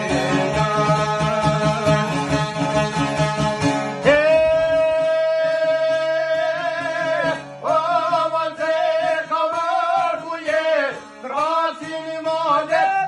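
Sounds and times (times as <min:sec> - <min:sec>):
man singing in a high voice: 0:00.0 - 0:03.2, 0:04.0 - 0:13.0
plucked lutes: 0:00.0 - 0:13.0.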